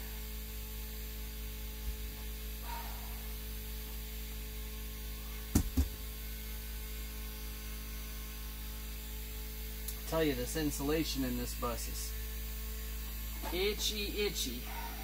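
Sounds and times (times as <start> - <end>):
steady low hum: 0.0 - 6.8, 8.7 - 15.0.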